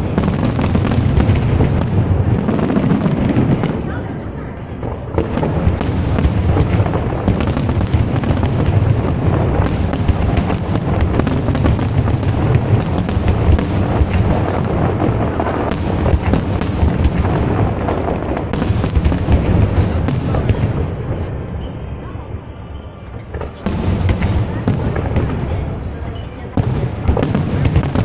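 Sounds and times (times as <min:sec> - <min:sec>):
fireworks bangs and booms: 0:00.0 - 0:28.0.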